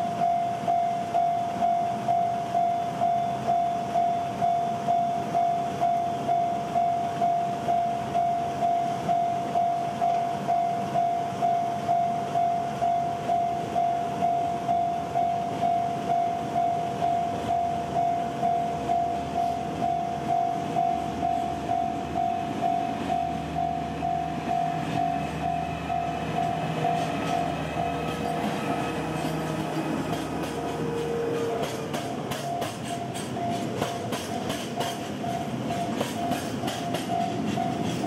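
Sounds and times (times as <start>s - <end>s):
level crossing alarm ringing: 0.0s - 31.7s, 34.4s - 37.9s
diesel freight train running: 0.0s - 38.0s.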